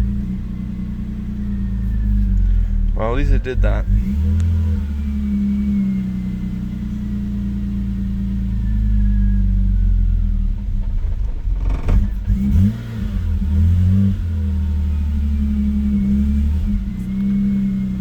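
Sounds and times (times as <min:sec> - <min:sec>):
car engine rough idle: 0:00.0 - 0:18.0.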